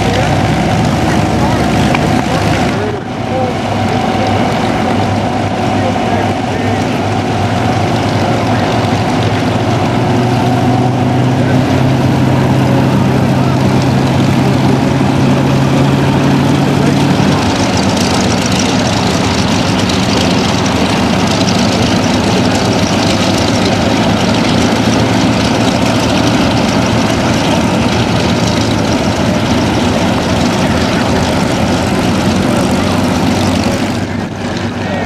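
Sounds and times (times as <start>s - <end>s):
other plane engines running: 0.0s - 35.0s
propeller plane engine drone: 0.0s - 35.0s.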